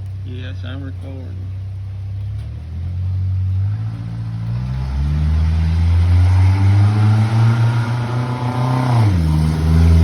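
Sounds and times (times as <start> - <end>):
vehicle engine accelerating: 0.0 - 10.0.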